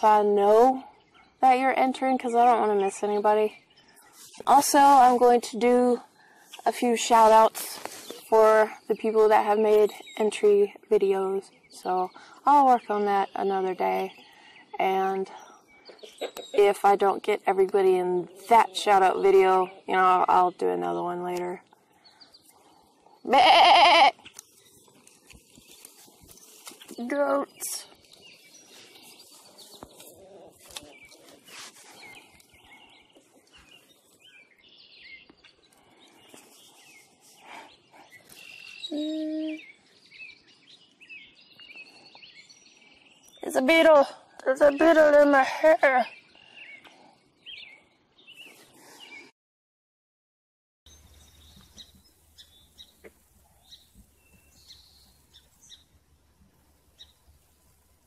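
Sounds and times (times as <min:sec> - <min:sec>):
small birds chirping: 0:00.0 - 0:49.3, 0:50.9 - 0:58.0.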